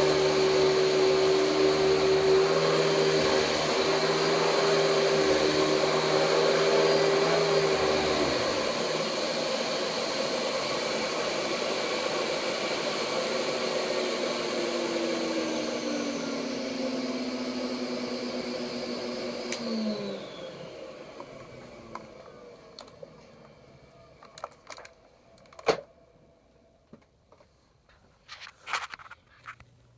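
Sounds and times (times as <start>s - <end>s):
motor winding down: 0.0s - 24.8s
vacuum cleaner running: 0.0s - 25.9s.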